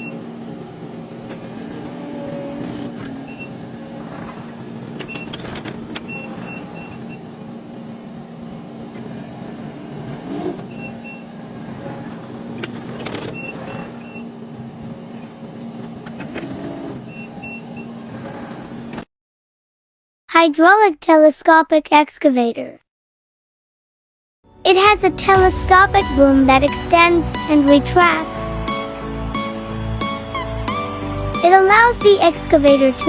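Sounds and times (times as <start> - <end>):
construction machine engine: 0.0 - 18.6, 24.8 - 33.0.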